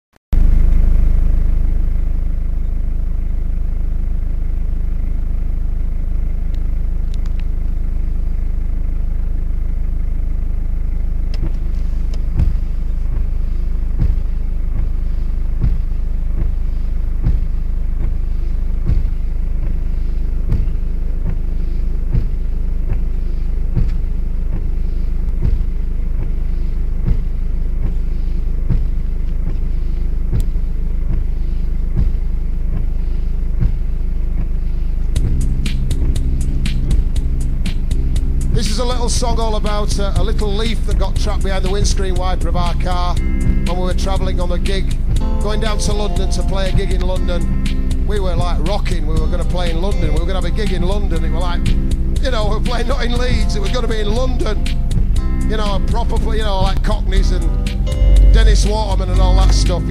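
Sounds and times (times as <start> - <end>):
car engine and road rumble: 0.4 - 59.9.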